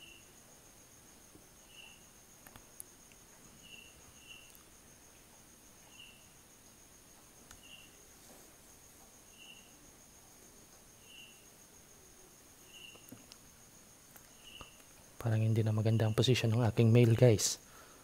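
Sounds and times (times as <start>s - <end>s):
insect chirping faintly: 0.0s - 18.0s.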